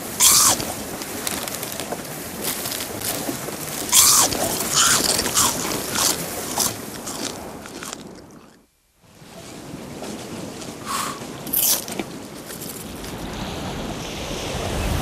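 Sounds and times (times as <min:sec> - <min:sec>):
sea water washing around boat: 0:00.0 - 0:08.4, 0:09.1 - 0:15.0.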